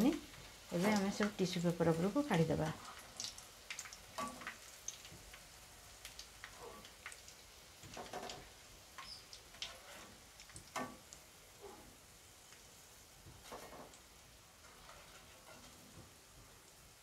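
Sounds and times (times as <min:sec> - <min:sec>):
food frying in hot oil: 0:00.0 - 0:17.0
oil crackling and popping: 0:00.0 - 0:17.0.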